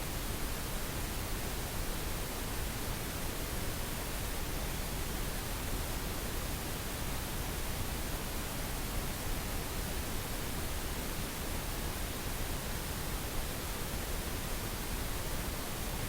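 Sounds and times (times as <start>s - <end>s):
pink noise hiss: 0.0s - 16.0s.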